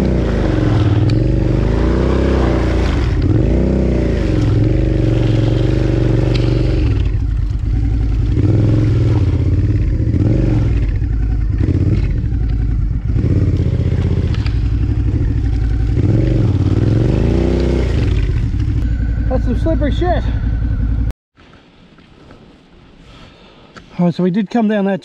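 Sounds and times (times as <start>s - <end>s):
motorcycle engine revving: 0.0s - 21.1s.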